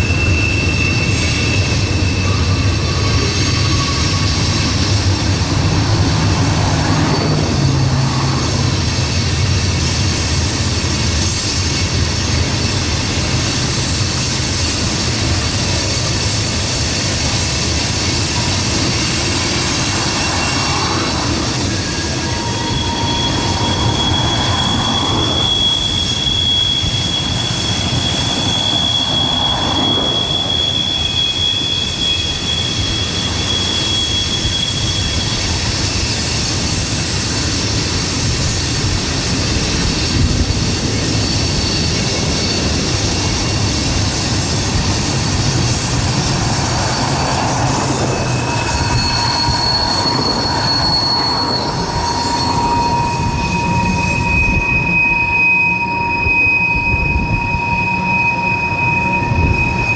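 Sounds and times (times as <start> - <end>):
high-pitched wheel squeal: 0.0 - 59.9
railcars rumbling: 0.0 - 59.9.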